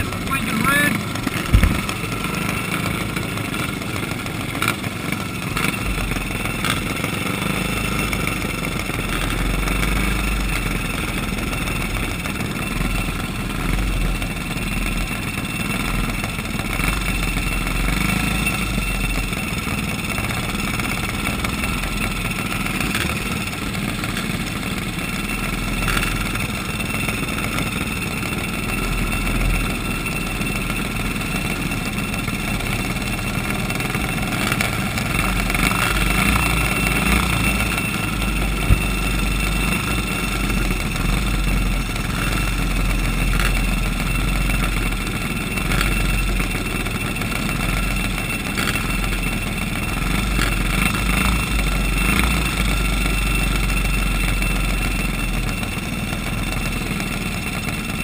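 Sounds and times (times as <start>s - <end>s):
kart engines idling: 0.0s - 58.0s.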